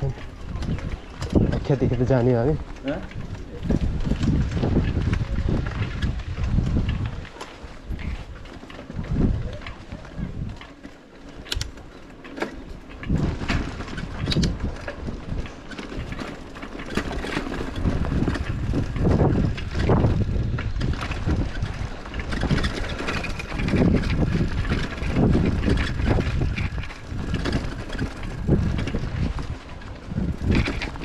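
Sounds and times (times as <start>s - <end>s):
small knocks from bicycle ride: 0.0s - 31.0s
wind buffeting microphone: 0.0s - 31.0s.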